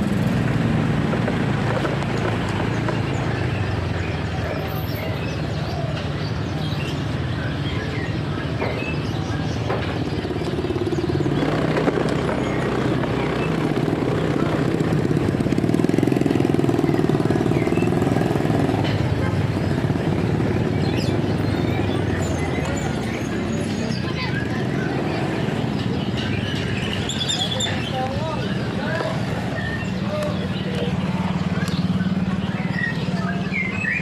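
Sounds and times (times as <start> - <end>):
motorcycle engine running: 0.0 - 5.0, 8.7 - 34.0.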